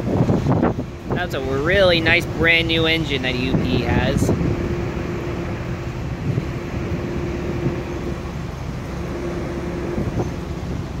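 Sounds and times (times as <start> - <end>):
freight train rumbling: 0.0 - 11.0
road traffic: 0.0 - 11.0
steady hum: 0.0 - 11.0.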